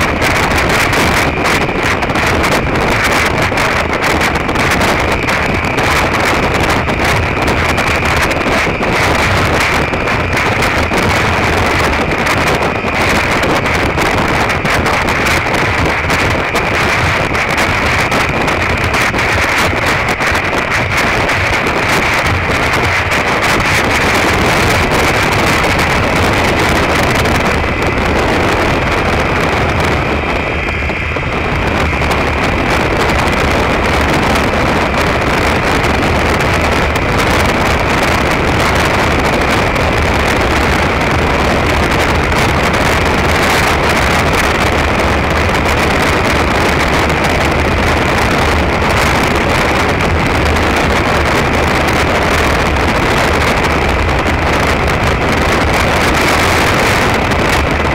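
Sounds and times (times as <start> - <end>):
motorcycle engine droning: 0.0 - 57.9
wind rush on microphone: 0.0 - 57.9.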